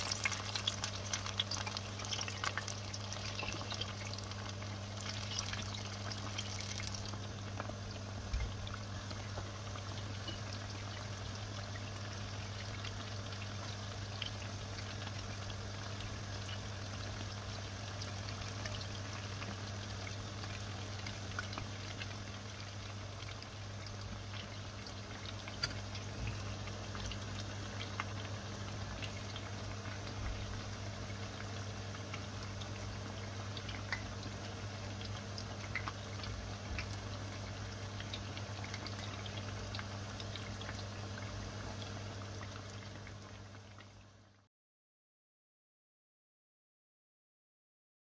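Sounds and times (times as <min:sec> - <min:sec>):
food sizzling in hot oil: 0:00.0 - 0:43.6.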